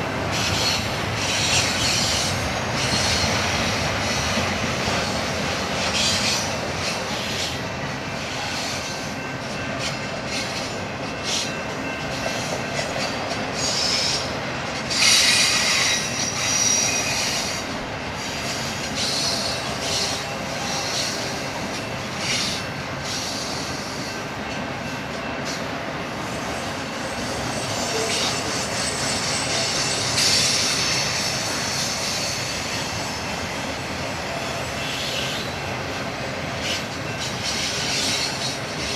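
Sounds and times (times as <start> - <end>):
freight train rumbling on rails: 0.0 - 38.9
train wheels squealing: 0.0 - 38.9.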